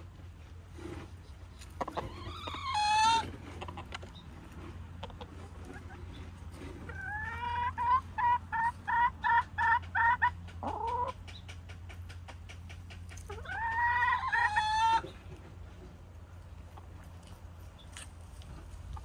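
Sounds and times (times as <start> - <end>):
hen clucking: 1.3 - 19.0.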